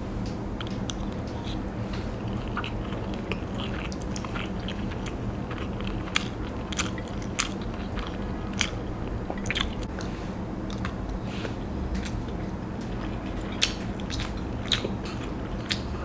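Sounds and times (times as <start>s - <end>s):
steady low hum: 0.0s - 16.0s
person chewing food: 0.6s - 16.0s.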